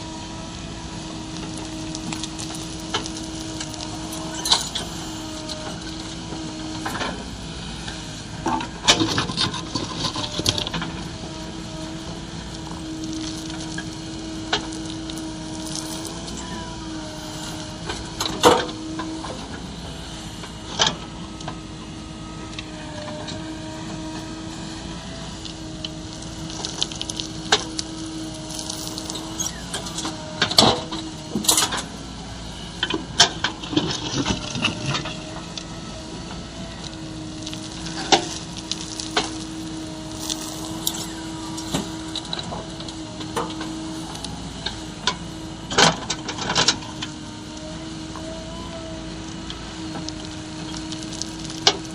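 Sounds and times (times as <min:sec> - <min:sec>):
backhoe engine hum: 0:00.0 - 0:51.9.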